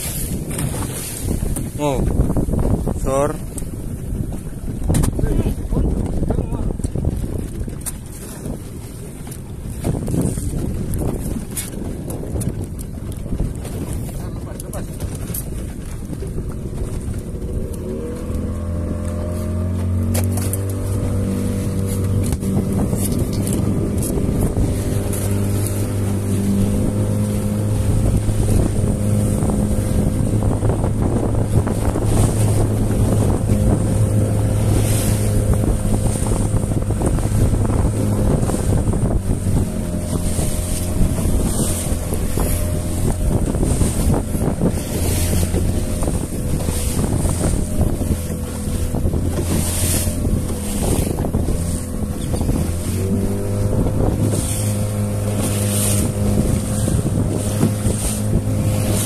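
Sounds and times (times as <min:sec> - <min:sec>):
outboard motor running: 0:00.0 - 0:59.0
wind buffeting microphone: 0:00.0 - 0:59.0.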